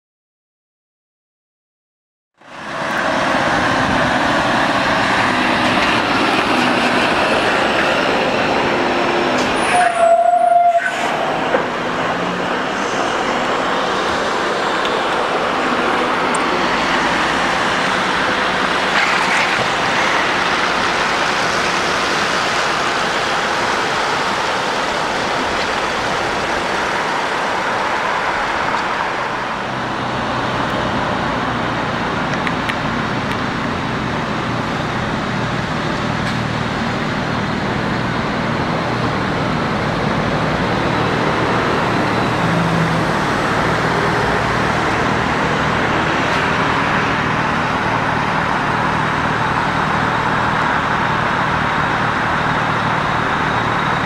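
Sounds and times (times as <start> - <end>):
tyre and road noise: 2.4 - 54.0.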